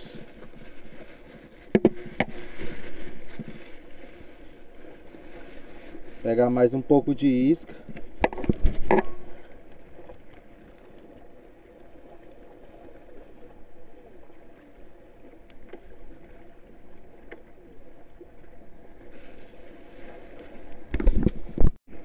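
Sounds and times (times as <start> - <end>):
sea water washing: 0.0 - 22.0
wind: 0.0 - 22.0.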